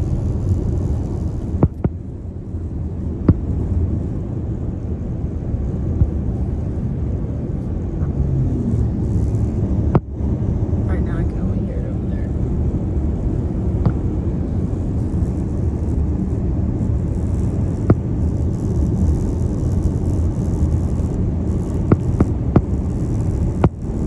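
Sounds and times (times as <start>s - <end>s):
road rumble inside car cabin: 0.0s - 24.0s.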